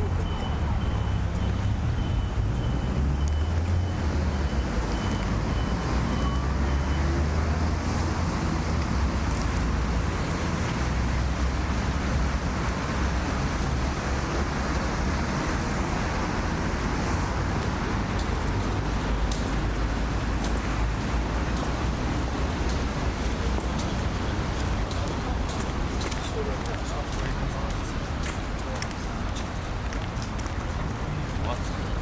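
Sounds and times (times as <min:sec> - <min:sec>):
low rumble of road traffic: 0:00.0 - 0:32.0.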